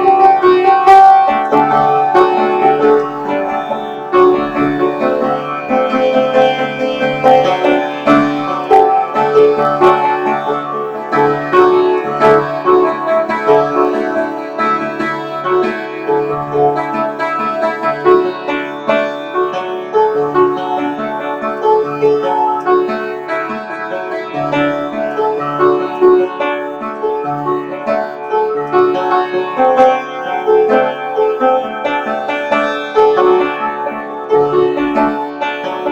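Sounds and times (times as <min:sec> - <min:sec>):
instrumental background music: 0:00.0 - 0:35.9
piano-like keyboard melody: 0:00.0 - 0:35.9.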